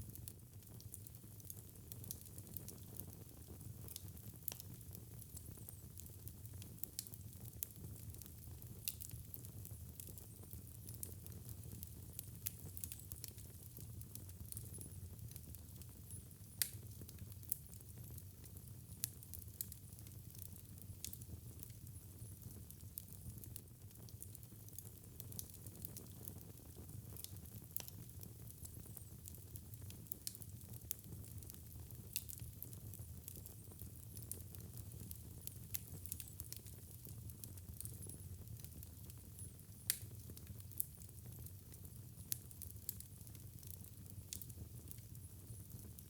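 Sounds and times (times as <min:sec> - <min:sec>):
fireplace fire crackling: 0:00.0 - 0:46.0.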